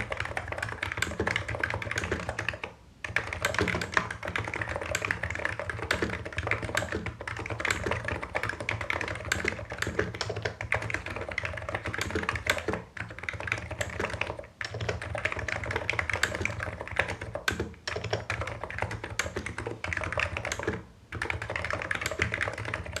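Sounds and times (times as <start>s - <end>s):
fast keyboard typing: 0.0s - 23.0s.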